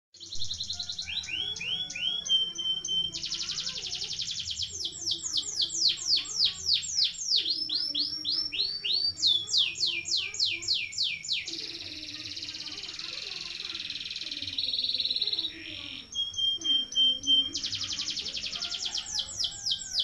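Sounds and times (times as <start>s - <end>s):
canary singing: 0.1s - 20.0s.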